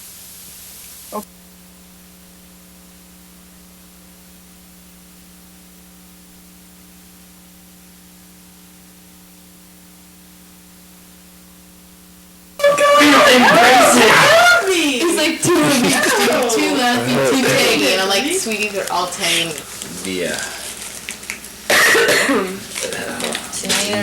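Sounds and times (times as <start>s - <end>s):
constant hiss: 0.0s - 24.0s
electrical mains hum: 0.0s - 24.0s.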